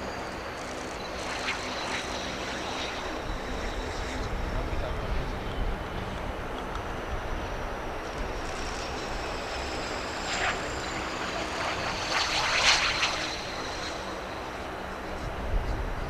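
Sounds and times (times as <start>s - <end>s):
aircraft engine noise: 0.0s - 16.0s
faint high whine: 0.0s - 16.0s.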